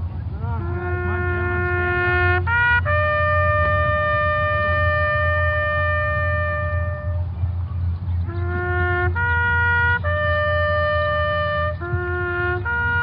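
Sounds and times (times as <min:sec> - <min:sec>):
steady low hum: 0:00.0 - 0:13.0
brass horn playing a march: 0:00.3 - 0:07.4, 0:08.2 - 0:13.0.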